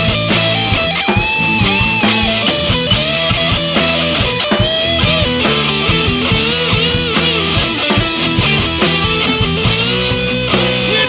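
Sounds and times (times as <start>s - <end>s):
lead guitar bending notes: 0.0s - 10.9s
hard rock instrumental: 0.0s - 11.0s.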